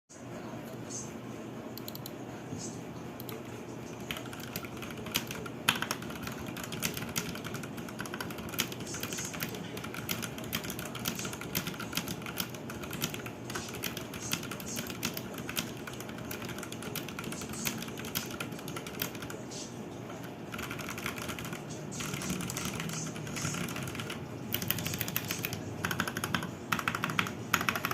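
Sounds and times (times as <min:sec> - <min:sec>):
mechanical keyboard typing: 0:01.8 - 0:02.1, 0:03.2 - 0:19.4, 0:20.2 - 0:27.9.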